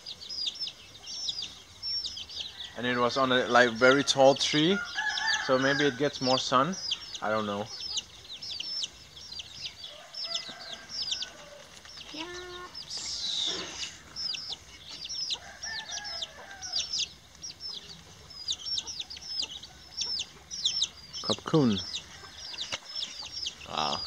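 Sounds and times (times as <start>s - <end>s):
chicken calls: 0.0s - 24.0s
small birds chirping: 0.0s - 24.0s.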